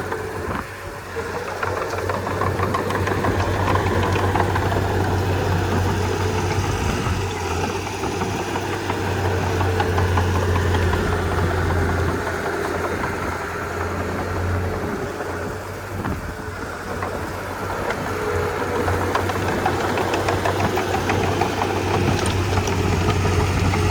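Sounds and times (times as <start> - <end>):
bulldozer diesel engine running: 0.0 - 23.9.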